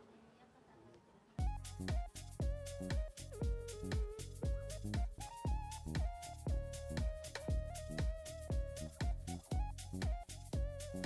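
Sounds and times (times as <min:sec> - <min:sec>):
low kick drum beat: 0:01.4 - 0:11.0.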